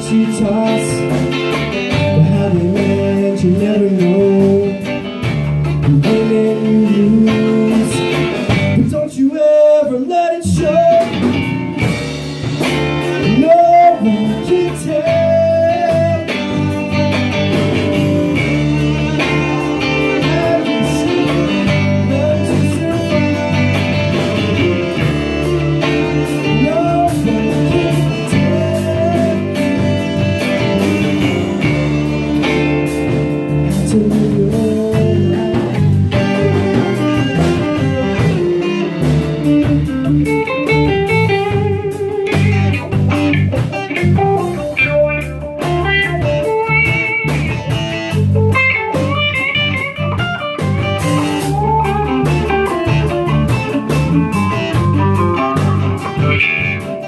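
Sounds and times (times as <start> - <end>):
blues-rock band: 0.0 - 57.0
electric guitar melody: 0.0 - 57.0.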